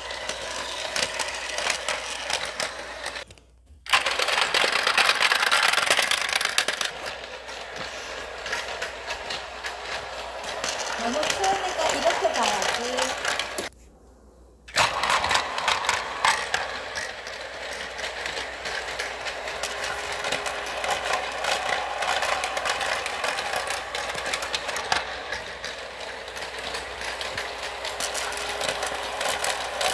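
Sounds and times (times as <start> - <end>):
toy train motor whine: 0.0 - 3.3, 3.9 - 13.7, 14.7 - 29.9
rapid clicking and rattling: 3.9 - 13.7, 14.7 - 29.9.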